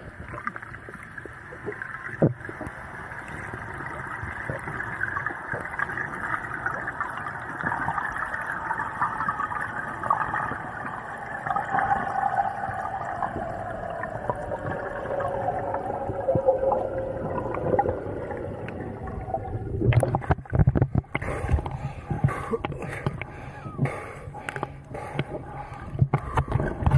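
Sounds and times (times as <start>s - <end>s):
muffled underwater water wash: 0.0s - 26.9s
water sloshing: 0.4s - 26.9s.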